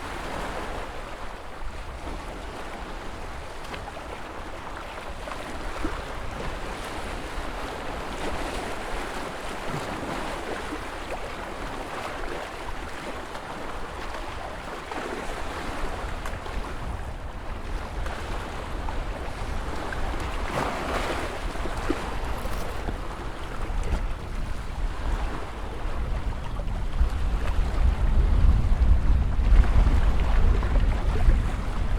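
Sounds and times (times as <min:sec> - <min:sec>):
waves breaking: 0:00.0 - 0:31.9.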